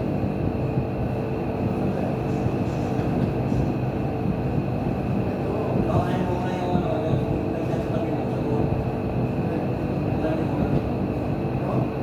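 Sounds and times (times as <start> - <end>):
machine rumble with low hum: 0.0 - 12.0.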